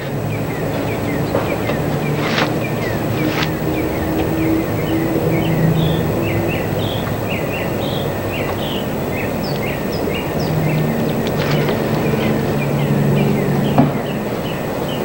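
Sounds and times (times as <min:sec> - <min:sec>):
constant low hum: 0:00.0 - 0:15.0
small bird chirping: 0:00.0 - 0:15.0.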